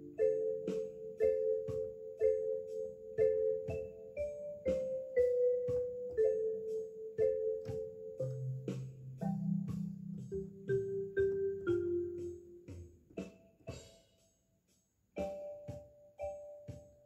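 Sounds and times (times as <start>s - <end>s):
light instrumental music: 0.0s - 17.0s.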